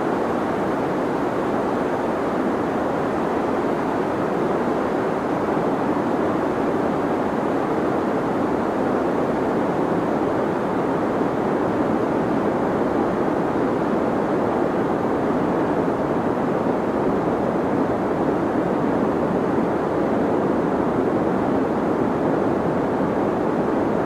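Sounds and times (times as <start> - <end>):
deep white noise hiss: 0.0 - 24.0.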